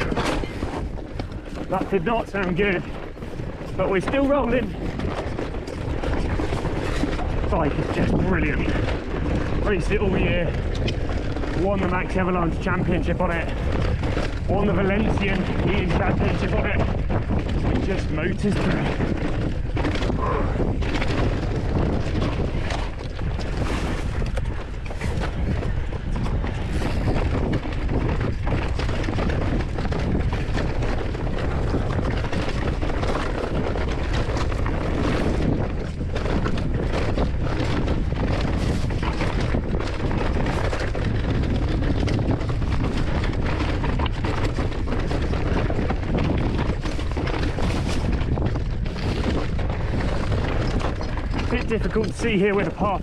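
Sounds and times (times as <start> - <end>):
bike clattering over rocks: 0.0 - 53.0
mountain bike rumbling over rocks: 0.0 - 53.0.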